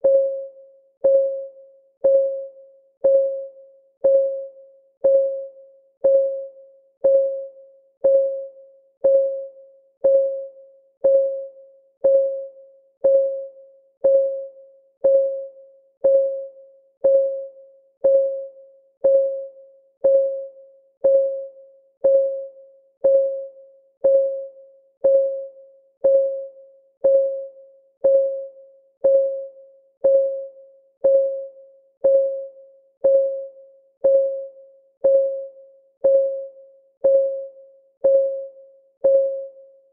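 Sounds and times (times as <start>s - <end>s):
timer clock ticking: 5.0s - 39.6s.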